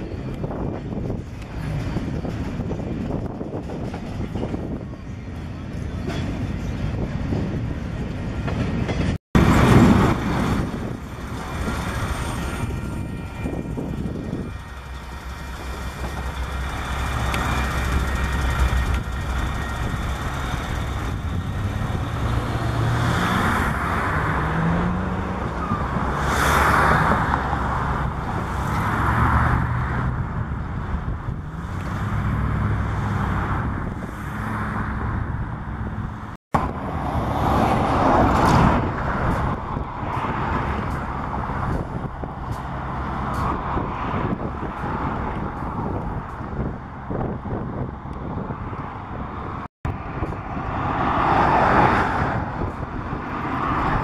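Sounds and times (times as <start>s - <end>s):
diesel locomotive engines: 0.0s - 54.0s
railcar wheels rumbling on rails: 0.0s - 54.0s.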